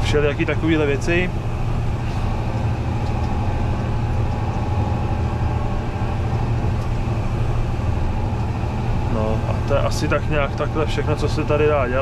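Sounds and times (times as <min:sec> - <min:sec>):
tractor engine drone in cab: 0:00.0 - 0:12.0.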